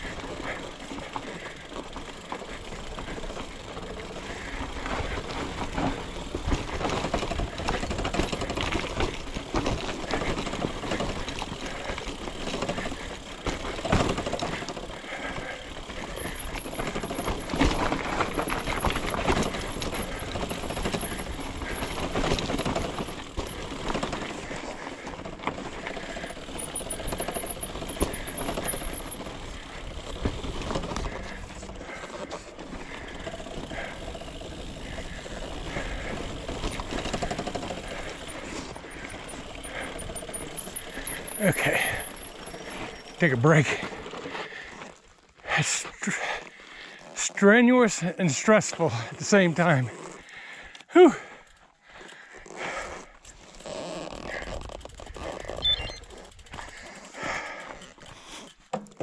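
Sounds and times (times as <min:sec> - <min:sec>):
mountain bike rattling downhill: 0:00.0 - 0:59.0.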